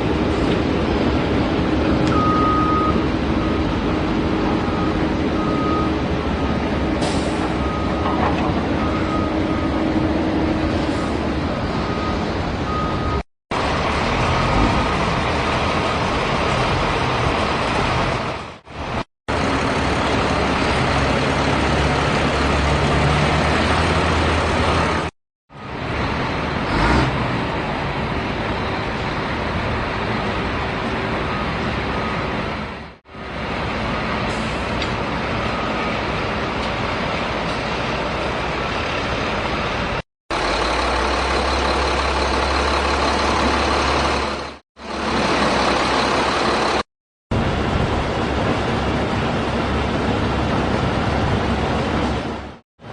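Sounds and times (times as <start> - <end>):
heavy vehicle engine running: 0.0 - 52.9.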